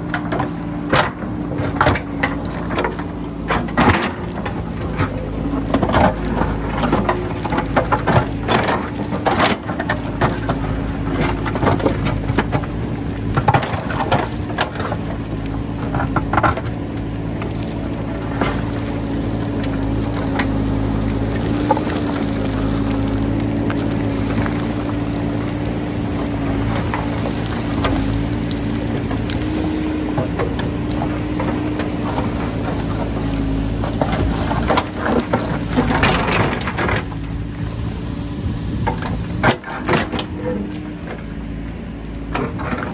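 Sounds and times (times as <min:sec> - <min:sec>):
bucket knocking and scraping rock: 0:00.0 - 0:37.8
diesel engine running under load: 0:00.0 - 0:42.9.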